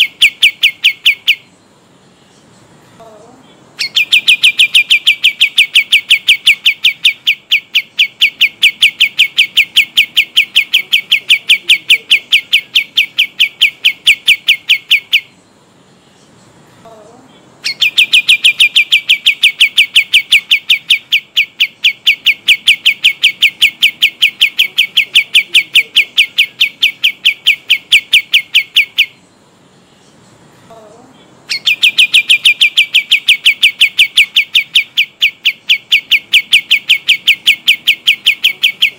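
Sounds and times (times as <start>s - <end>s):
bird singing a rapid trill: 0.0s - 38.9s.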